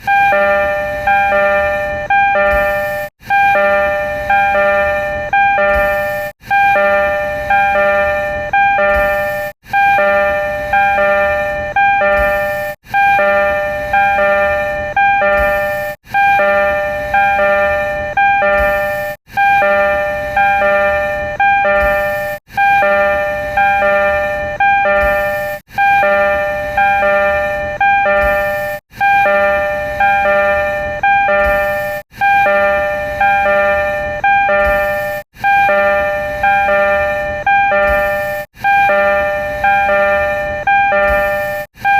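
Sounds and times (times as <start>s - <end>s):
electronic door chime melody: 0.0s - 41.9s.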